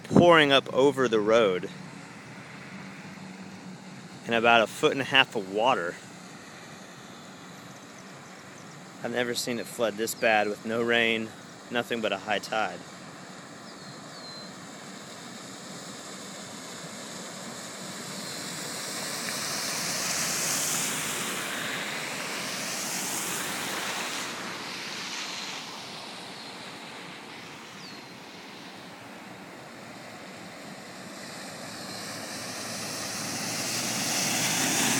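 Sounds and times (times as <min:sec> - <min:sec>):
tyres spraying floodwater: 0:00.0 - 0:34.9.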